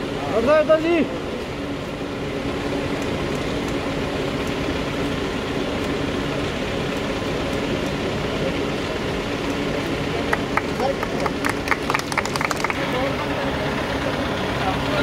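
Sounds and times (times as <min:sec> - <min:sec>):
ambulance engine idling: 0:00.0 - 0:15.0
rushing background noise: 0:00.0 - 0:15.0.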